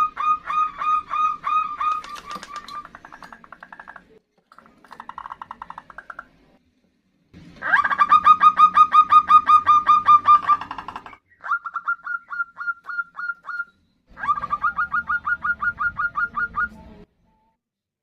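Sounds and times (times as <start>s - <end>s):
doves rapid staccato calls: 0.0s - 6.4s, 7.6s - 16.8s.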